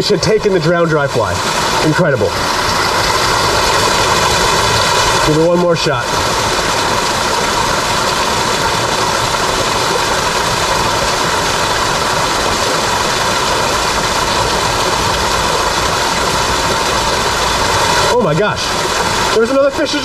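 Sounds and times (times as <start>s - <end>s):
water running over rocks: 0.0s - 20.0s
small cascade splashing: 0.4s - 20.0s.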